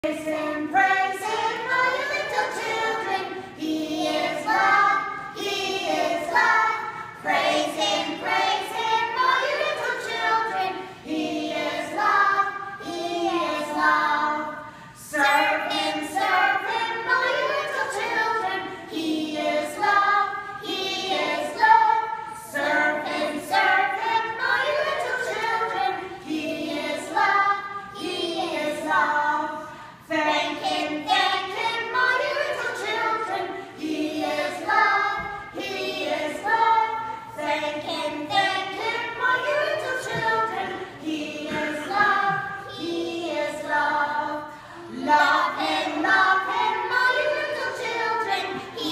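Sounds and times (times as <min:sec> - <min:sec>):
children singing unaccompanied: 0:00.0 - 0:48.9.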